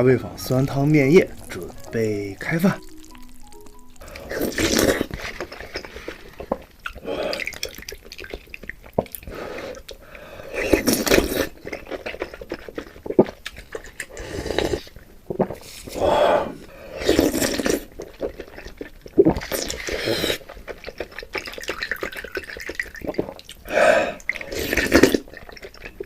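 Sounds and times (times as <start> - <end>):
person slurping noodles: 4.0 - 8.5, 9.1 - 26.0.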